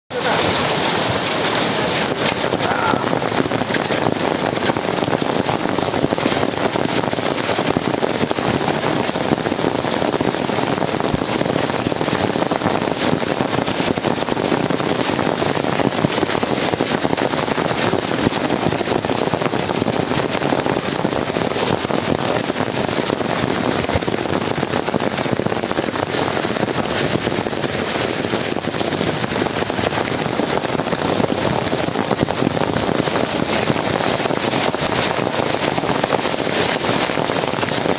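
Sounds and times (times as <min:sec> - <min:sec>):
hailstones pelting down: 0:00.1 - 0:37.9.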